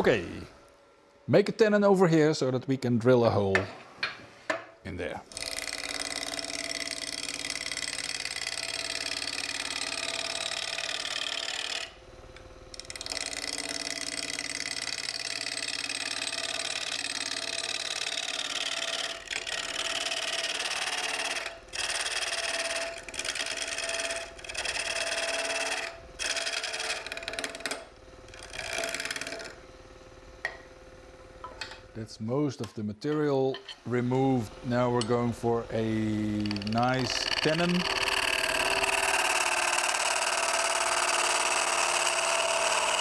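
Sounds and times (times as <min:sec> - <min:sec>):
lathe motor hum: 0:05.3 - 0:30.6, 0:33.9 - 0:43.0.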